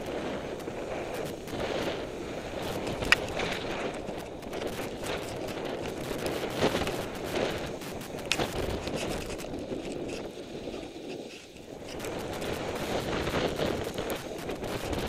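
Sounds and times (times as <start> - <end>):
skis sliding over snow: 0.0 - 15.0
wind buffeting microphone: 0.0 - 15.0.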